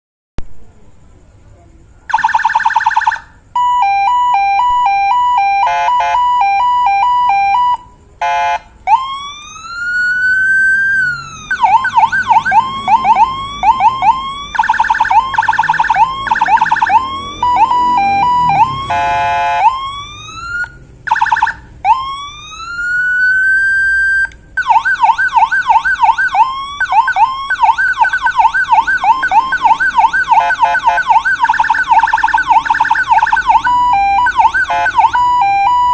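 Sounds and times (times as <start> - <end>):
electronic siren tones: 2.1 - 35.9.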